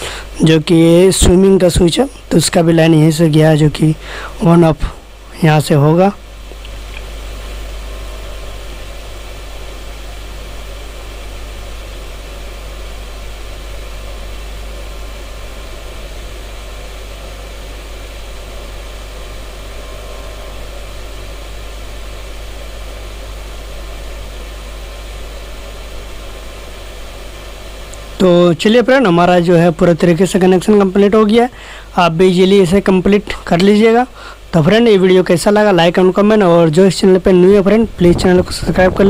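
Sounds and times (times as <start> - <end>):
low hum: 0.0 - 39.0
steady background hiss: 0.0 - 39.0.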